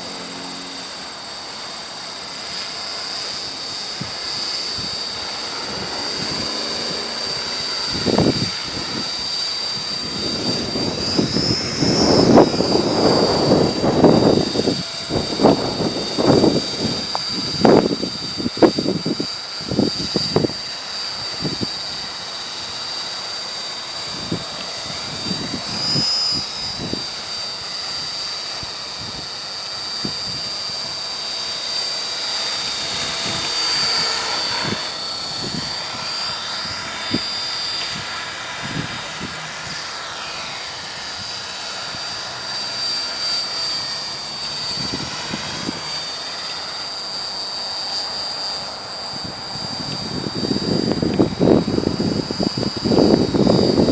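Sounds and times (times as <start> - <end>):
rc helicopter whining: 0.0 - 53.9.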